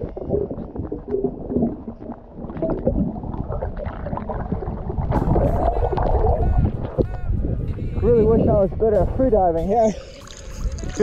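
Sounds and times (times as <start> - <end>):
water splashing: 0.0 - 9.2, 9.8 - 11.0
underwater churning and gurgling: 0.0 - 11.0.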